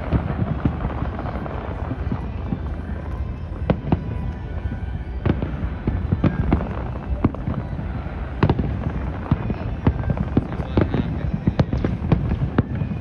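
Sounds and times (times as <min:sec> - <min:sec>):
distant fireworks bursting: 0:00.0 - 0:13.0.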